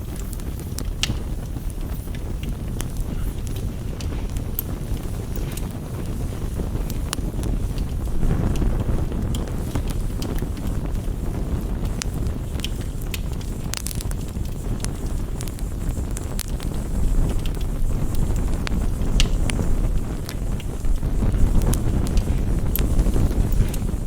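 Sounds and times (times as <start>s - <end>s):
campfire crackling and popping: 0.0s - 24.0s
rain rushing: 0.0s - 24.0s.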